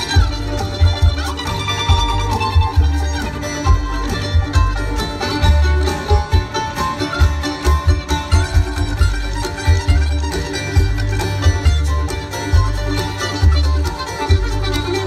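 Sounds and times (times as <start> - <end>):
bluegrass band playing: 0.0 - 15.0.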